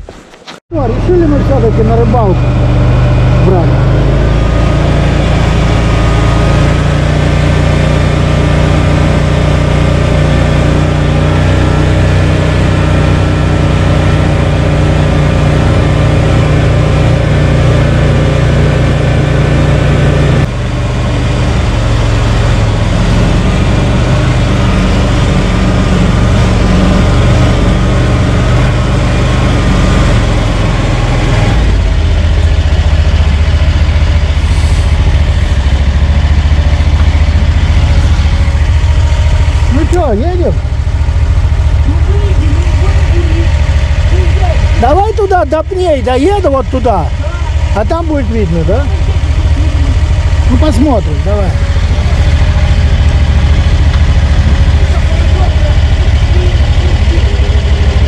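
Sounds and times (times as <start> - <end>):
all-terrain vehicle engine running: 0.7 - 58.0.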